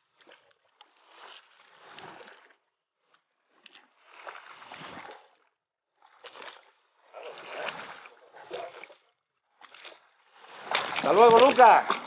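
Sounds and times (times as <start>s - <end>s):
water sloshing against a boat: 0.0s - 12.0s.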